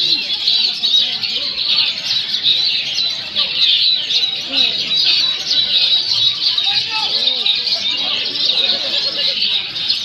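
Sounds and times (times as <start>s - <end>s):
many songbirds singing: 0.0s - 10.0s.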